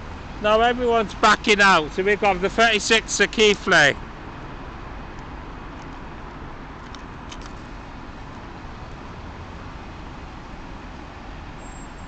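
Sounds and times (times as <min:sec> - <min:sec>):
bus engine running: 0:00.0 - 0:12.0
traffic hum: 0:00.0 - 0:12.0.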